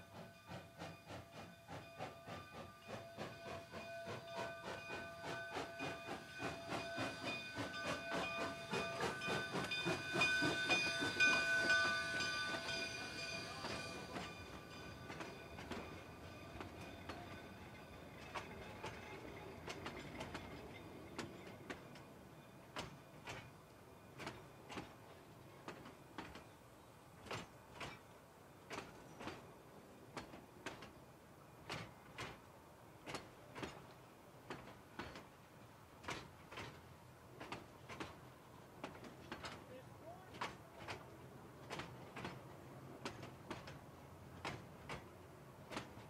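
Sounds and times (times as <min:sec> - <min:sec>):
wheels clicking over rail joints: 0:02.8 - 0:46.0.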